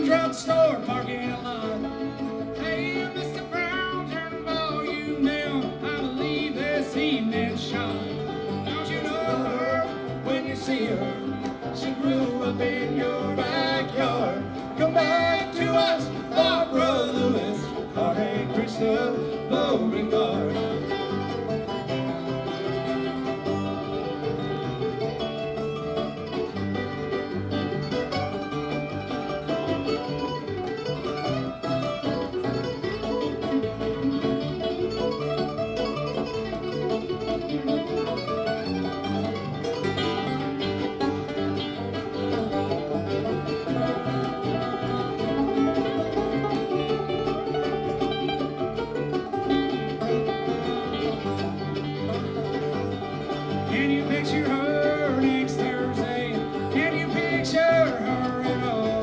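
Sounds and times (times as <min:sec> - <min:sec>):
acoustic guitar picking: 0:00.0 - 0:59.0
banjo picking: 0:00.0 - 0:59.0
bluegrass band playing: 0:00.0 - 0:59.0.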